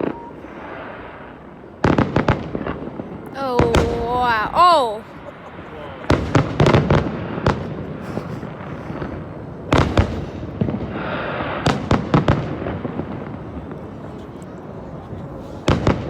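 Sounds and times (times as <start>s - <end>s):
fireworks bangs: 0.0s - 14.3s, 15.1s - 16.0s.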